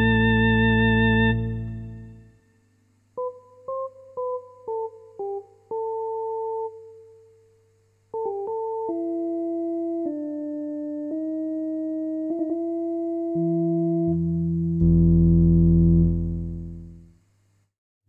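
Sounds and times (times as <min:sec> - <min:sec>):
electronic organ notes: 0:00.0 - 0:02.3, 0:03.2 - 0:07.0, 0:08.1 - 0:17.1.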